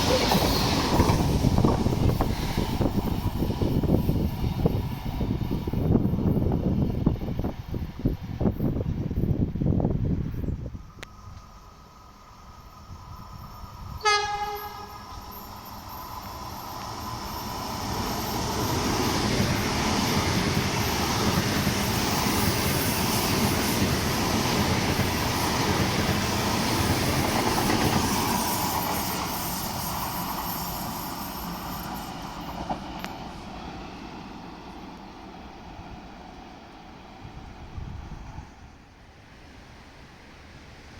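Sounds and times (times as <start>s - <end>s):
train passing: 0.0s - 40.9s.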